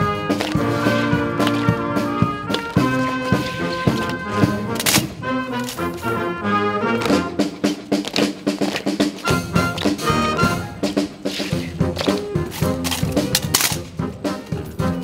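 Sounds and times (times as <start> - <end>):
brass band music: 0.0 - 15.0.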